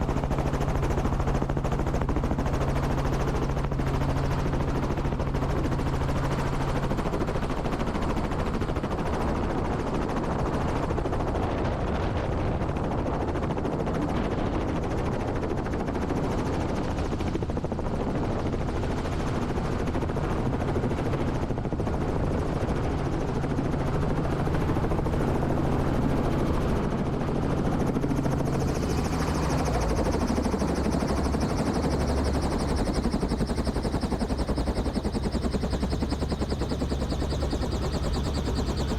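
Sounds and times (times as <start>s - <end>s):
helicopter engine hum: 0.0s - 38.9s
helicopter rotor chop: 0.0s - 38.9s.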